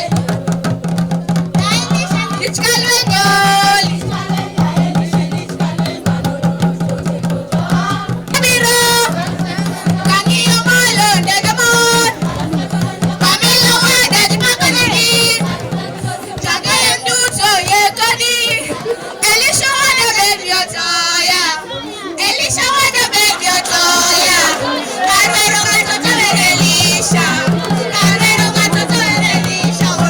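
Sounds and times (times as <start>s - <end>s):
fast drum and percussion beats: 0.0s - 20.9s, 22.2s - 30.0s
voices singing: 0.0s - 30.0s.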